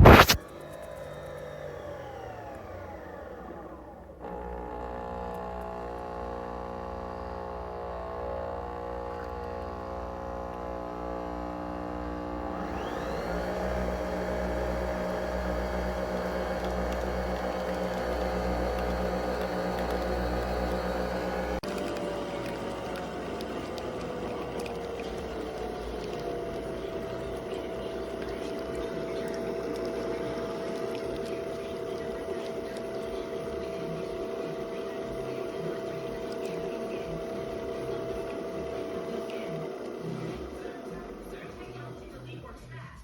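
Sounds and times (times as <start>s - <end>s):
coffee machine humming: 0.0s - 42.6s
coffee machine whine: 0.0s - 43.0s.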